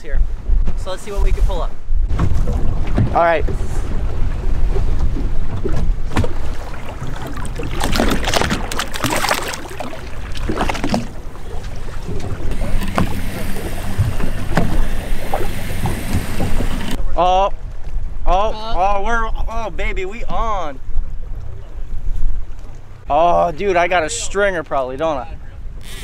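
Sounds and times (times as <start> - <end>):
wind noise: 0.0 - 24.4.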